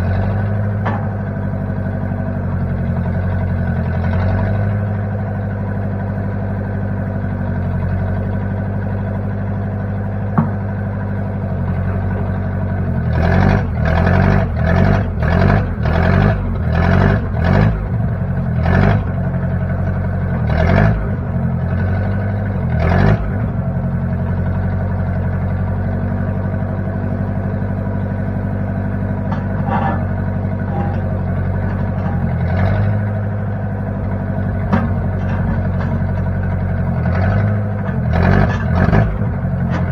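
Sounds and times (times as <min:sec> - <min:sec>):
backhoe engine running and surging: 0:00.0 - 0:39.9.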